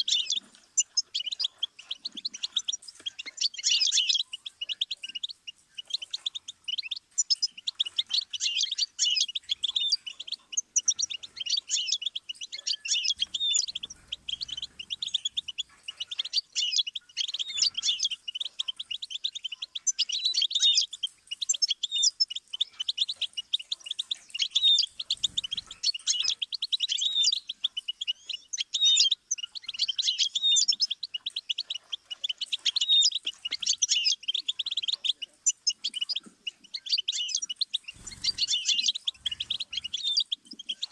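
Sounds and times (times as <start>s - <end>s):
finch twittering song: 0.0s - 40.9s.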